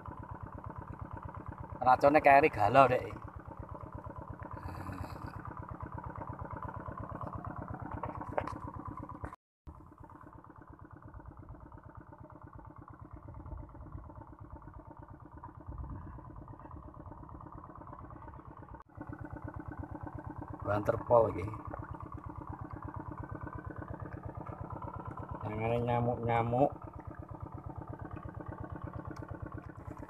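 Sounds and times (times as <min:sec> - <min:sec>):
small engine puttering: 0:00.0 - 0:30.0.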